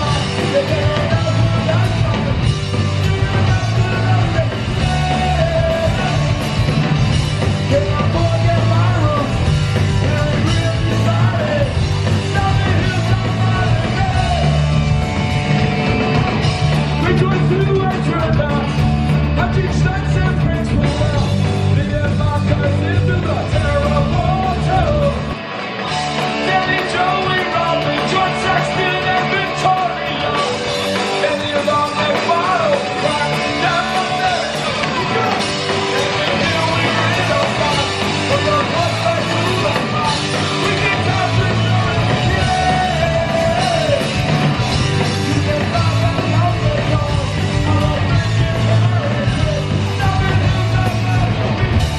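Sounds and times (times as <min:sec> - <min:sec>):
singer shouting vocals: 0:00.0 - 0:06.5, 0:07.6 - 0:15.0, 0:16.9 - 0:25.4, 0:26.3 - 0:51.8
bass guitar: 0:00.0 - 0:51.9
drums: 0:00.0 - 0:51.9
electric guitars: 0:00.0 - 0:51.9.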